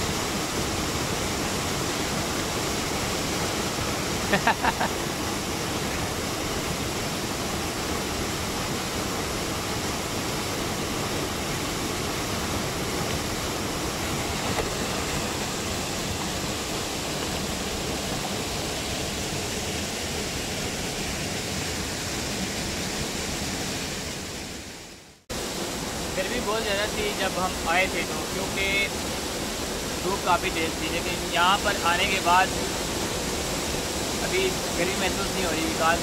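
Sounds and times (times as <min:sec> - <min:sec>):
waterfall rushing over rock: 0:00.0 - 0:36.0.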